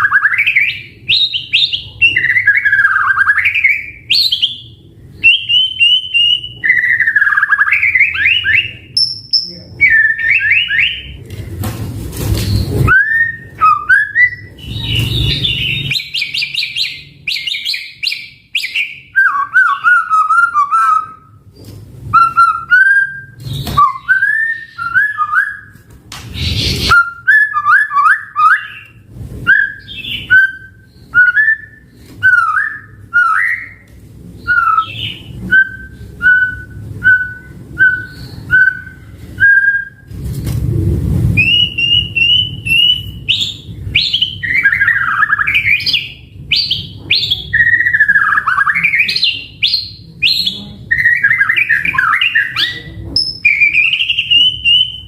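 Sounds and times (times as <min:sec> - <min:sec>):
bird singing whistled song: 0:00.0 - 0:11.2, 0:12.5 - 0:21.4, 0:22.1 - 0:25.8, 0:26.4 - 0:40.1, 0:41.4 - 0:55.0.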